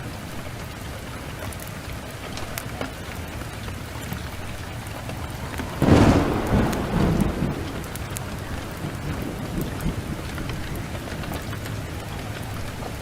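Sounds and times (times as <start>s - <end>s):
heavy rain: 0.0s - 13.0s
thunderclap rumbling: 1.8s - 13.0s.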